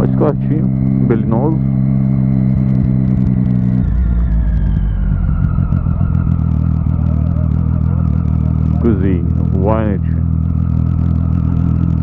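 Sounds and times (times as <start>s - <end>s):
faint falling whine: 0.0s - 12.0s
motorcycle engine running: 0.0s - 12.0s.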